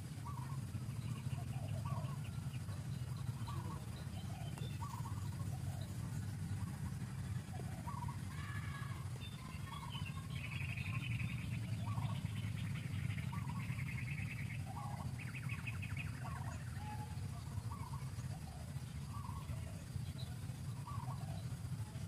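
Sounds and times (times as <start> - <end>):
birds chirping: 0.0 - 22.0
buzzy bird trills: 0.0 - 22.0
steady low rumble: 0.0 - 22.0.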